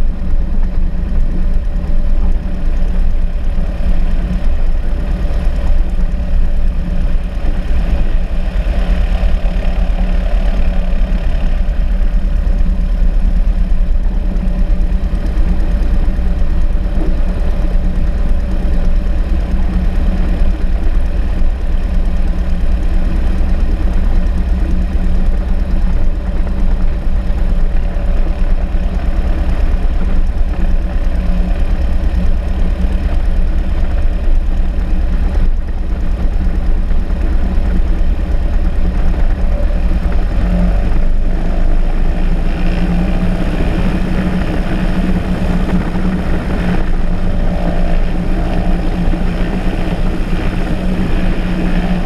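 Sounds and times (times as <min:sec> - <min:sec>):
aircraft engine idling: 0:00.0 - 0:52.0.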